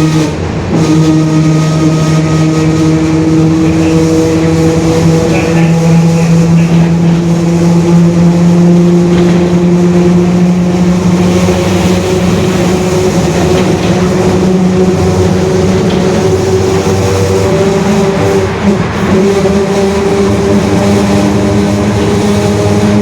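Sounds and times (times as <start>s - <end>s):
diesel bus engine: 0.0s - 23.0s
growling differential drone: 0.0s - 23.0s.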